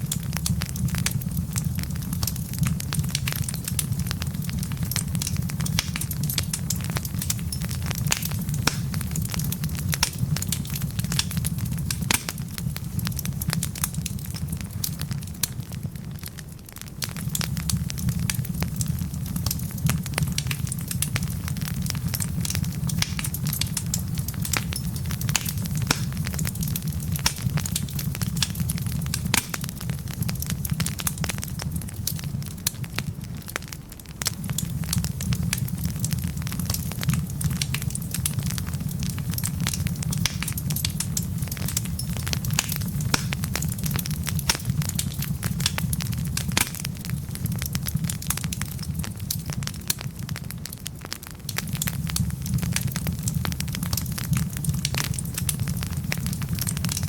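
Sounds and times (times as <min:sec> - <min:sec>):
log fire crackling: 0:00.0 - 0:57.0
low rumble of burning logs: 0:00.0 - 0:57.0.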